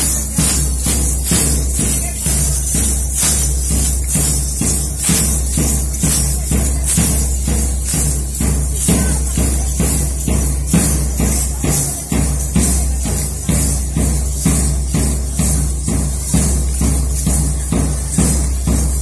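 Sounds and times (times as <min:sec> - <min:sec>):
loud music with drumbeat: 0:00.0 - 0:19.0
metal jingles clashing: 0:00.0 - 0:19.0.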